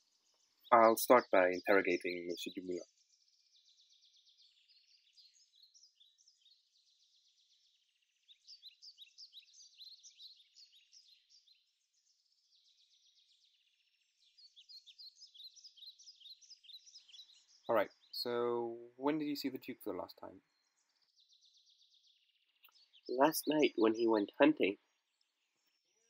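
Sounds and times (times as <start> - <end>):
faint birdsong chirps and trills: 0.0 - 26.0.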